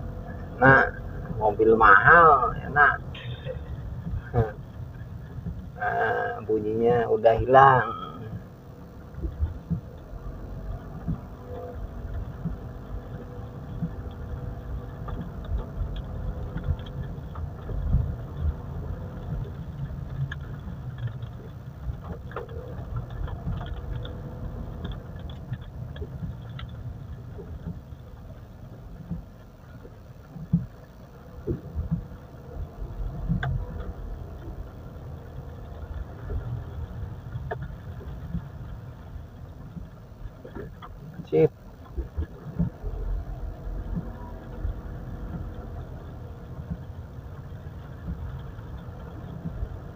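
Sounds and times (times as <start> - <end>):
car driving with low rumble: 0.0 - 49.9.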